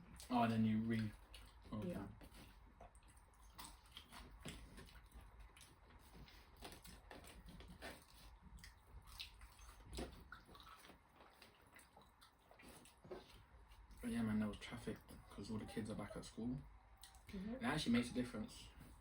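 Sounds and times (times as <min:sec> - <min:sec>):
chewing and mouth clicks: 0:00.0 - 0:15.4, 0:16.9 - 0:17.4.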